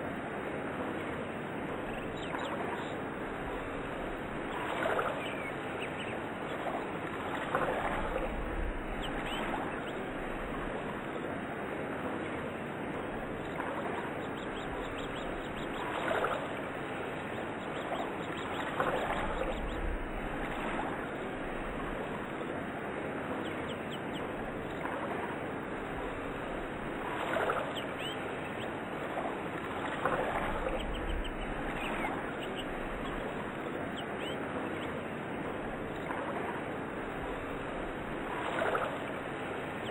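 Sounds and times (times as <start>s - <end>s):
birds chirping: 0.0s - 39.9s
running water: 0.0s - 39.9s.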